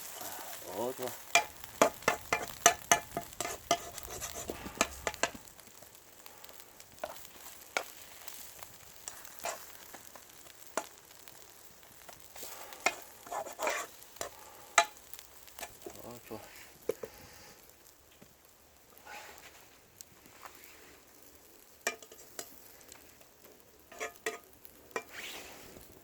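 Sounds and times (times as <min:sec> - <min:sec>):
batter sizzling in oil: 0:00.0 - 0:26.0.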